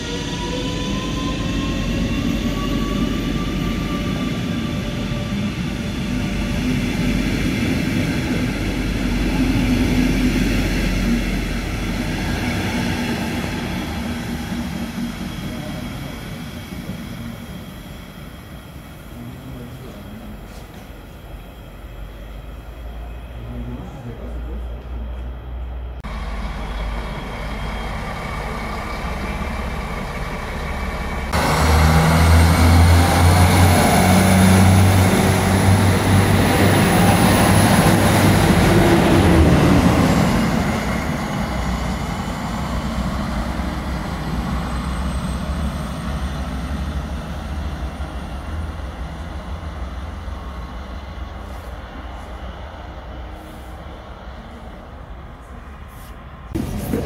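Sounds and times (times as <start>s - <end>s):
diesel railcar engine drone: 0.0s - 57.0s.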